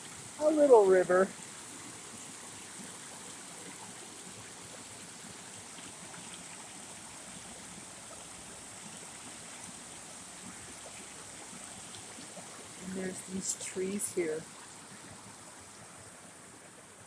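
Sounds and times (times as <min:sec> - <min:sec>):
creek water running over rocks: 0:00.0 - 0:17.0.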